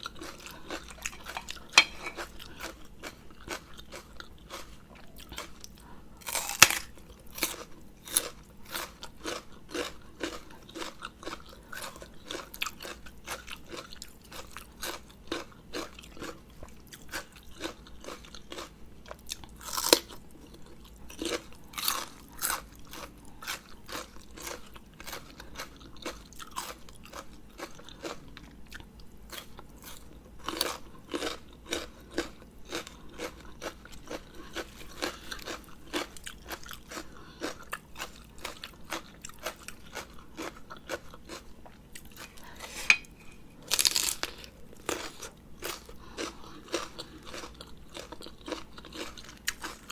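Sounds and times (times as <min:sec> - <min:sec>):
chewing and crunching: 0:00.0 - 0:49.9.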